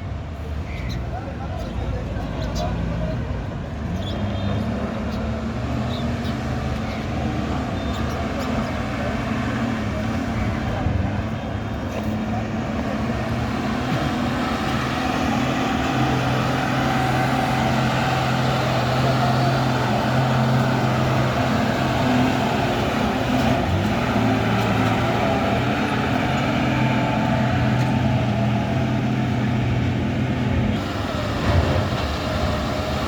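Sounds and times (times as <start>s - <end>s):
heavy diesel engines in traffic: 0.0s - 33.0s
road noise: 0.0s - 33.0s.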